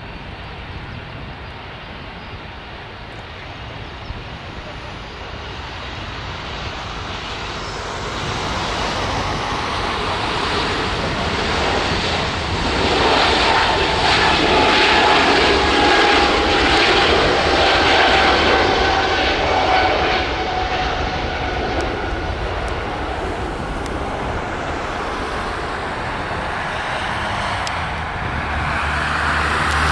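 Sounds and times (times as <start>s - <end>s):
jet engine whine: 0.0s - 29.9s
jet engines roaring at takeoff: 0.0s - 29.9s.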